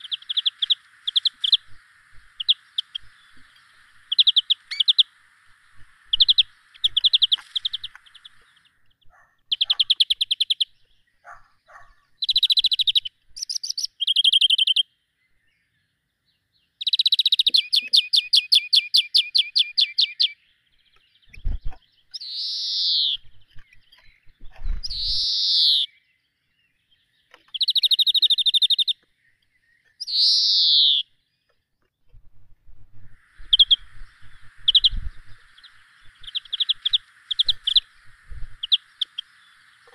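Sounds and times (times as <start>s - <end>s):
songbird trilling: 0.0s - 15.7s, 16.6s - 31.5s, 33.0s - 39.9s.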